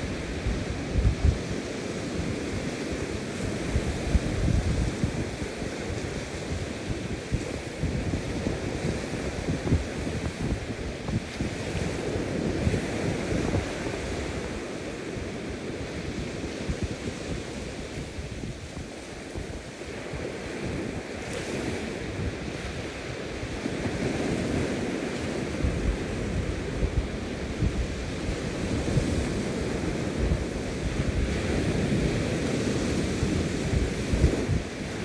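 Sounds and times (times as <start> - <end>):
ocean waves breaking: 0.0 - 35.0
wind noise on microphone: 0.0 - 35.0.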